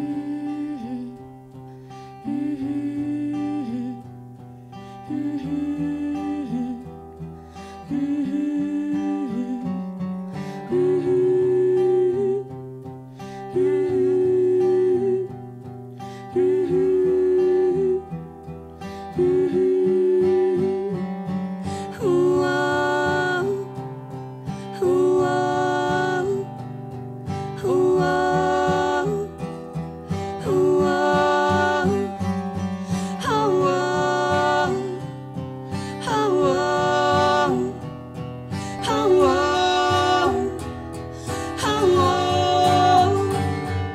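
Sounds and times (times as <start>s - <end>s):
strummed acoustic guitar: 0.0s - 43.9s.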